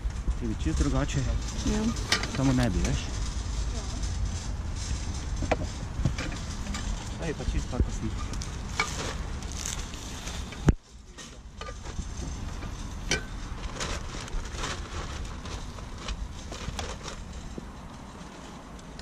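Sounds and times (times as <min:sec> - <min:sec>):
packaging rustling and crackling: 0:00.6 - 0:10.7, 0:11.4 - 0:19.0.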